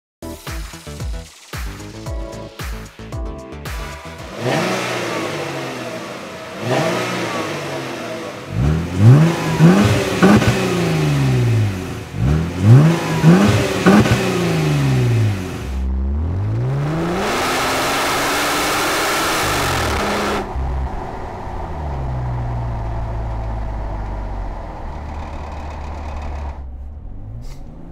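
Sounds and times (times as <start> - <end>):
car engine idling and revving: 3.7 - 27.9
car accelerating: 3.8 - 27.9.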